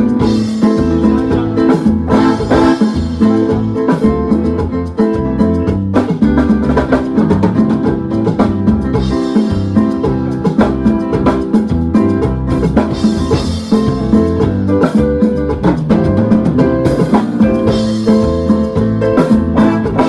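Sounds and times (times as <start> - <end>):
band with drums bass and guitar: 0.0 - 20.0.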